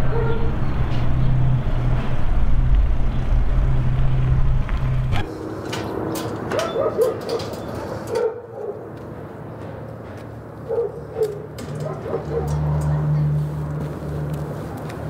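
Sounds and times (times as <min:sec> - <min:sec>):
street ambience: 0:00.0 - 0:15.0
vehicle engine rumble: 0:00.0 - 0:15.0.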